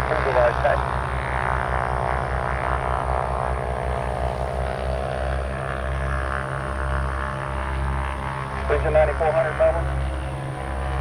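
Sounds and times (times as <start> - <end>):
aircraft engine whining hum: 0.0 - 11.0.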